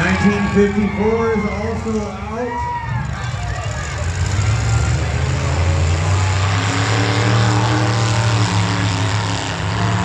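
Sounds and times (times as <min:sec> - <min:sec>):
truck engines running: 0:00.0 - 0:10.0.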